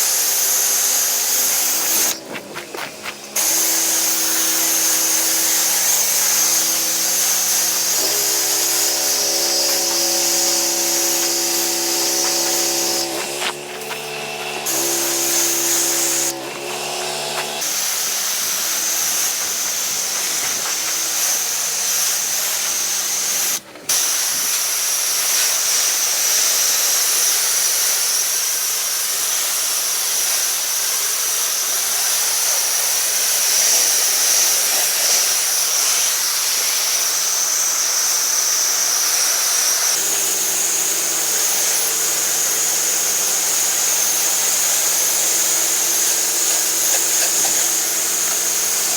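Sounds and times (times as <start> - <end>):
pressure washer engine humming: 0.0 - 26.5, 31.9 - 48.9
pressure washer water spraying: 0.0 - 27.6, 28.5 - 48.9.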